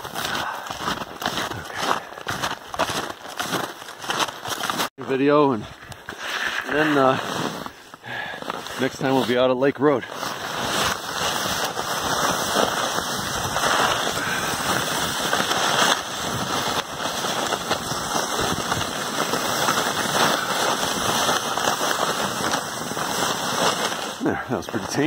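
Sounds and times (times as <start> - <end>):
person sliding on snow: 0.0 - 25.0
snowshoes scuffing snow: 0.0 - 25.0.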